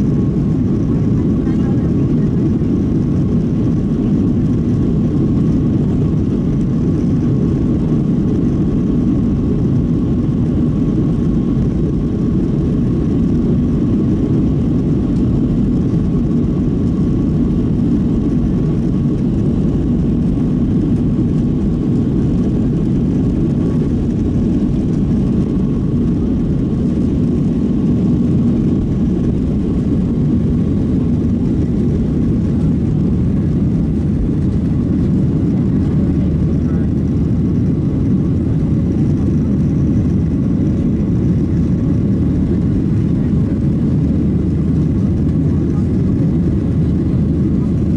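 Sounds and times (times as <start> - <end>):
faint engine whine: 0.0 - 47.9
jet engine low rumble: 0.0 - 47.9.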